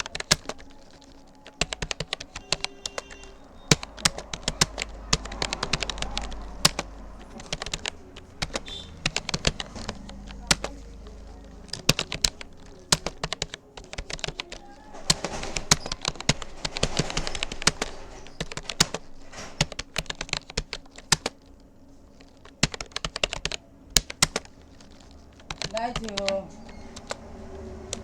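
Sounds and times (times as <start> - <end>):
keyboard typing clicks: 0.0 - 28.0.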